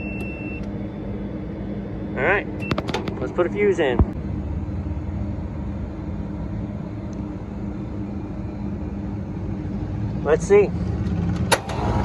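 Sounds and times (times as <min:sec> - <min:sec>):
hvac machinery humming: 0:00.0 - 0:12.0.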